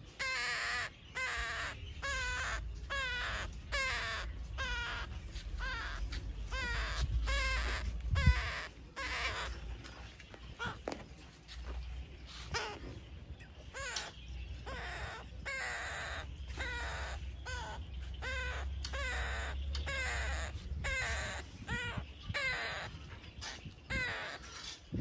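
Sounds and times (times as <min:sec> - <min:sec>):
animal calling: 0:00.2 - 0:10.9, 0:13.7 - 0:24.8.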